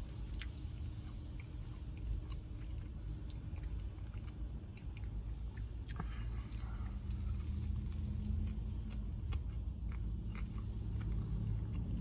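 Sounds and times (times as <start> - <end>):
low rumble inside car: 0.0 - 12.0
person chewing food: 0.0 - 12.0.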